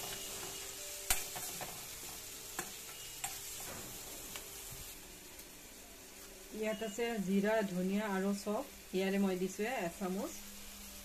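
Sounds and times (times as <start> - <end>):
chillies sizzling in oil: 0.0 - 11.0.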